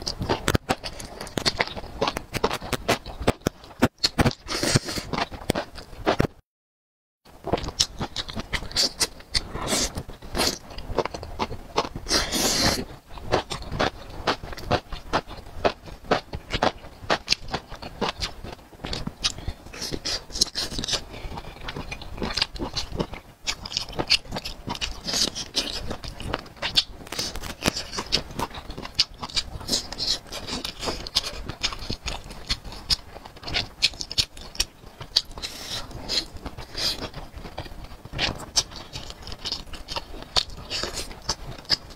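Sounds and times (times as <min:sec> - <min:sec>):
chewing and lip-smacking: 0:00.0 - 0:06.2, 0:07.5 - 0:41.9.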